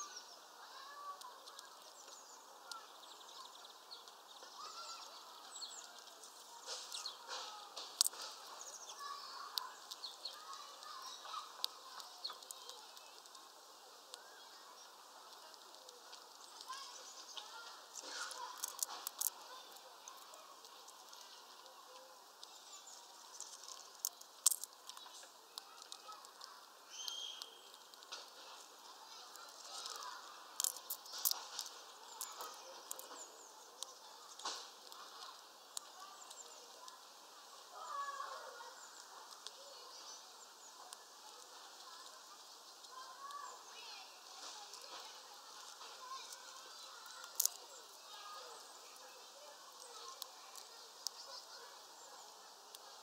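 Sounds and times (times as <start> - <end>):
squirrel gnawing and cracking seeds: 0.0 - 53.0.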